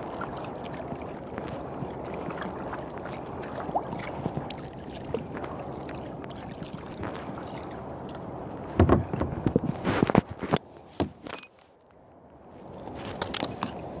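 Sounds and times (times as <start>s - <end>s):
paddle knocks and splashes: 0.0s - 11.4s
paddle water wash and drips: 0.0s - 14.0s.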